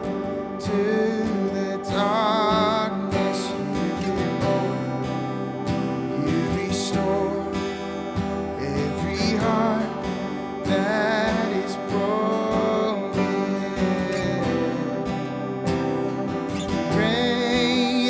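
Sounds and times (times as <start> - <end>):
melody with vibrato: 0.0 - 18.0
strummed acoustic guitar: 0.0 - 18.0.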